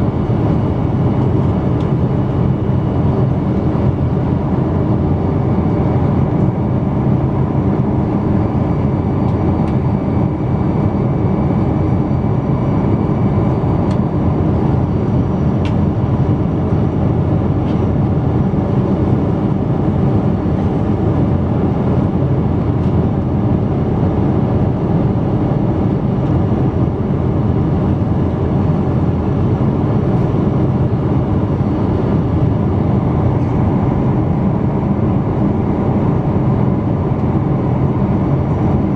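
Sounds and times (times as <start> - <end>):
airplane cabin engine drone: 0.0 - 38.9.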